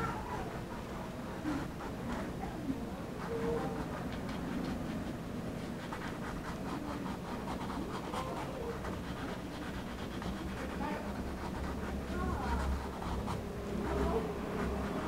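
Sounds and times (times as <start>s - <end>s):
brush scratching on canvas: 0.0s - 15.0s.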